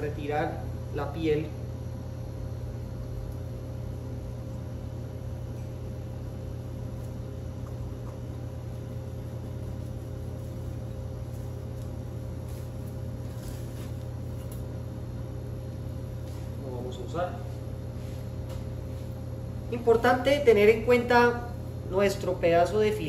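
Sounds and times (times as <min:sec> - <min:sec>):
kitchen equipment humming: 0:00.0 - 0:23.0.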